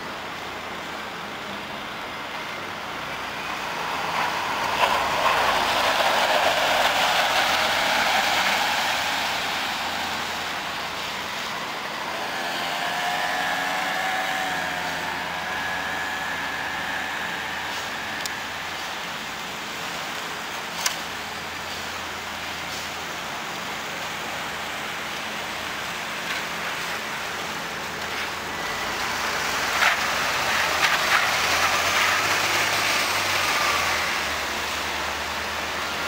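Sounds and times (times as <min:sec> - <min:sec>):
bus driving past: 0:00.0 - 0:36.0.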